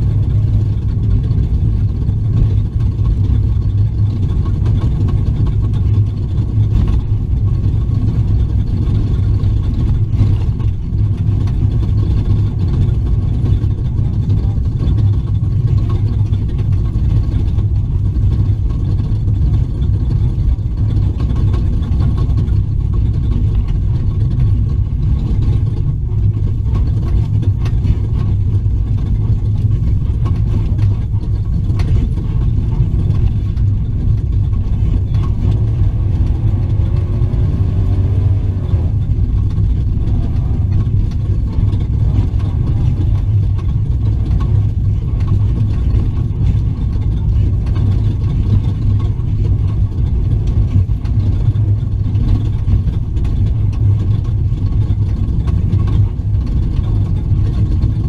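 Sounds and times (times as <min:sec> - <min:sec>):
road noise: 0:00.0 - 0:56.1
truck engine rumbling: 0:00.0 - 0:58.0.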